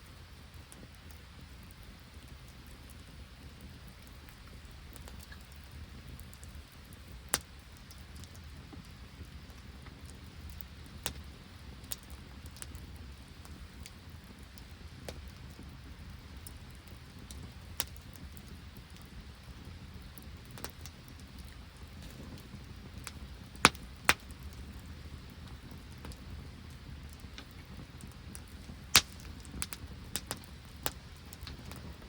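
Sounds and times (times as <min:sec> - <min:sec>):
wood fire crackling: 0:00.0 - 0:32.0
rain and sleet falling: 0:02.2 - 0:32.0.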